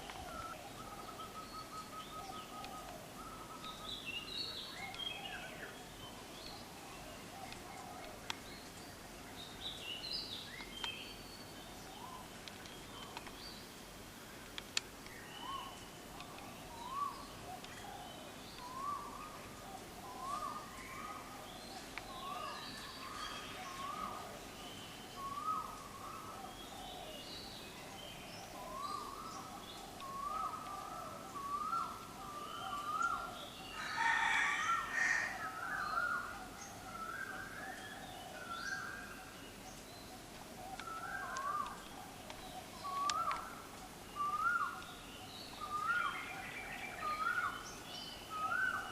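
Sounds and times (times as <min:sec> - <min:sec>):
birds calling: 0:00.0 - 0:48.9.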